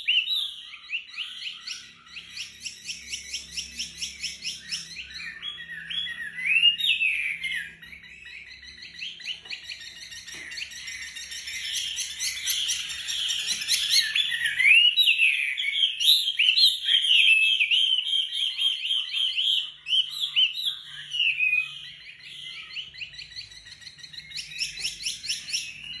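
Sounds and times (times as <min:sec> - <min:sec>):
songbird rapid chirping song: 0:00.0 - 0:26.0.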